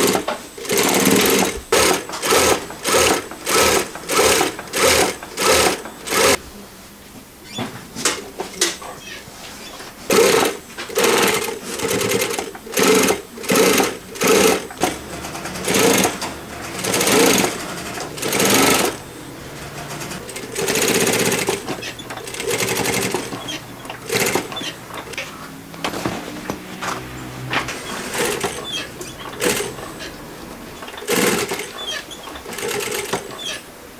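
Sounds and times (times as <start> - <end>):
sewing machine stitching: 0.0 - 6.4, 10.1 - 26.2, 26.8 - 33.6.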